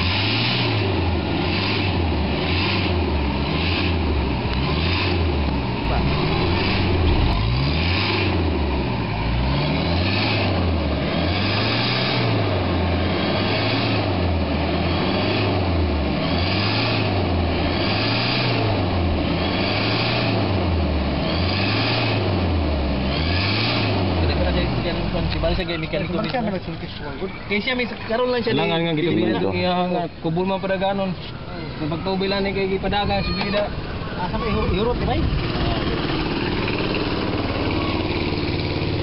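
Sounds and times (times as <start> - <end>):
diesel engine revving: 0.0 - 26.2, 33.7 - 39.0.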